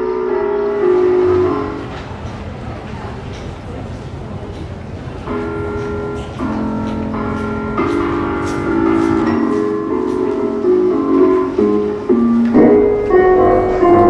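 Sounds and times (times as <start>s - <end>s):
piano notes from stair steps: 0.0s - 14.0s.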